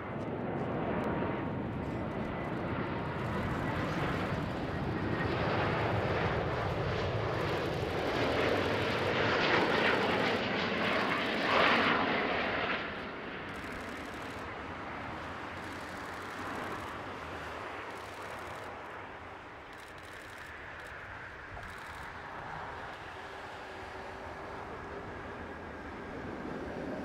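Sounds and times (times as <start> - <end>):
airliner rolling on runway: 0.0 - 27.0
jet airliner engine noise: 0.0 - 27.0.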